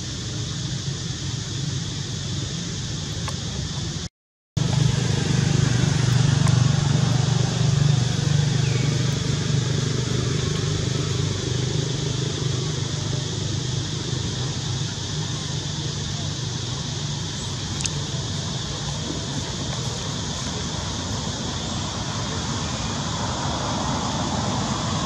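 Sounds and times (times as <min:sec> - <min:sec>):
high hiss: 0:00.0 - 0:25.0
low engine hum: 0:00.0 - 0:25.0.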